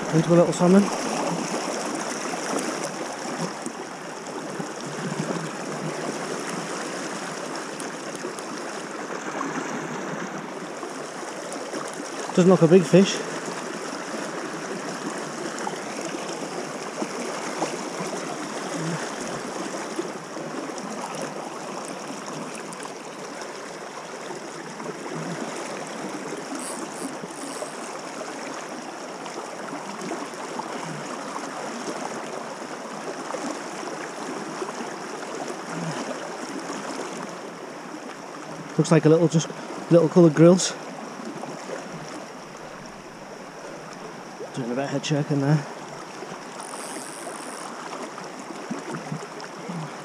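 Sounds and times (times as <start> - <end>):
river rushing over stones: 0.0 - 50.0.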